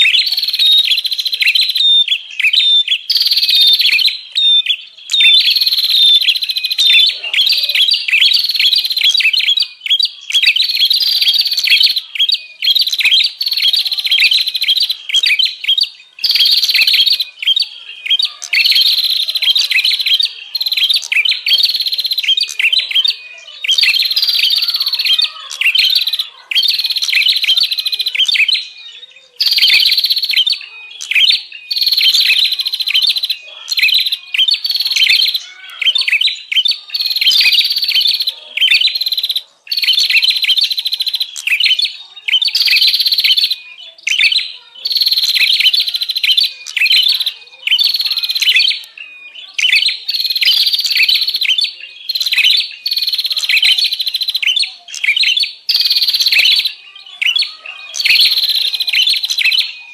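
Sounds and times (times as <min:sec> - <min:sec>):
songbirds chattering calls: 0:00.0 - 0:59.9.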